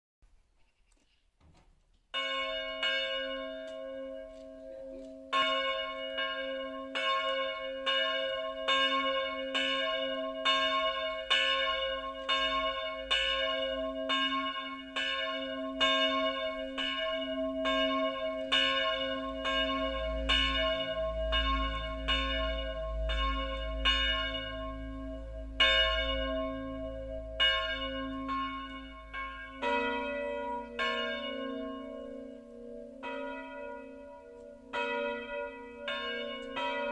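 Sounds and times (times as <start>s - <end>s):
church bells ringing: 2.1s - 36.9s.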